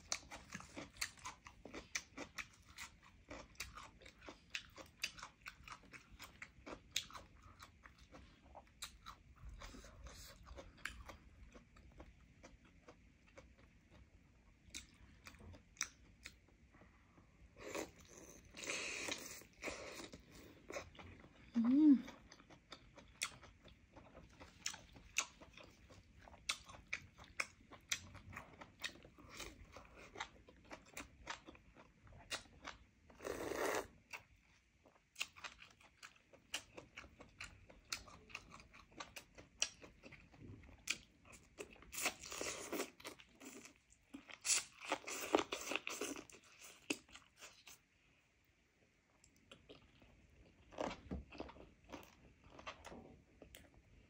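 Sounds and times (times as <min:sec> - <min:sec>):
chewing chicken: 0:00.0 - 0:47.9, 0:49.0 - 0:54.0.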